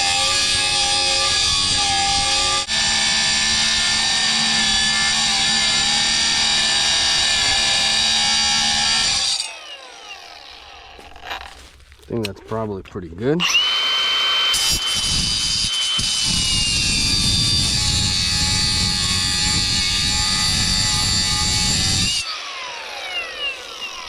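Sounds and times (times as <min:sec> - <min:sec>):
power saw cutting steel: 0:00.0 - 0:11.6, 0:13.4 - 0:24.0.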